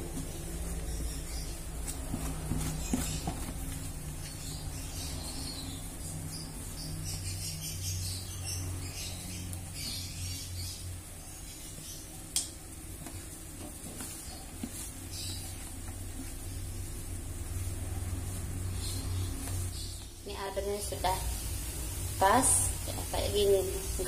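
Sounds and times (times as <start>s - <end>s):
hands mixing flour dough: 0.0s - 24.0s
steady low hum: 0.0s - 24.0s.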